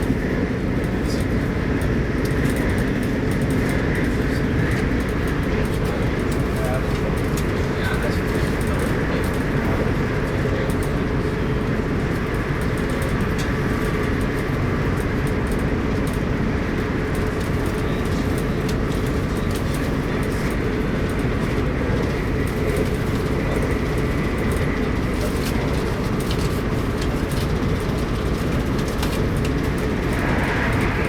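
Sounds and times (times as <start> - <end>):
constant hum: 0.0 - 31.0
electric train rumbling: 0.0 - 31.0.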